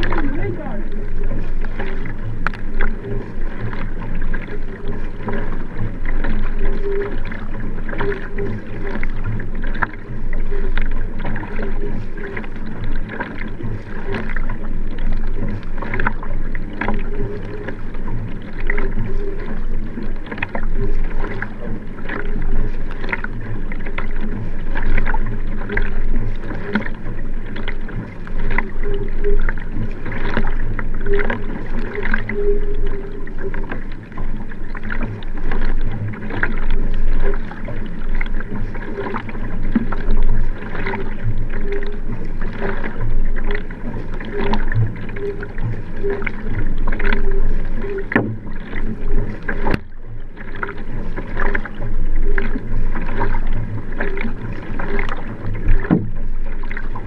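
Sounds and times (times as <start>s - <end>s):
paddle strokes splashing: 0.0s - 57.0s
water rushing along hull: 0.0s - 57.0s.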